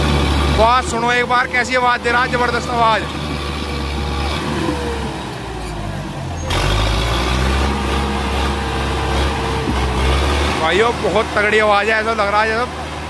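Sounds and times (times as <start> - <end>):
tractor diesel engine straining: 0.0 - 13.0.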